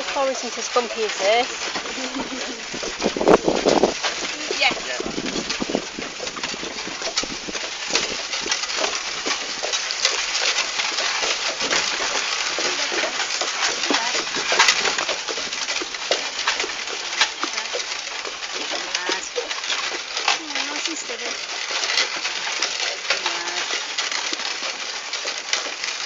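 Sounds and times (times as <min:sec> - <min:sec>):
cart clattering and rattling: 0:00.0 - 0:26.0
horse hooves on road: 0:00.0 - 0:26.0.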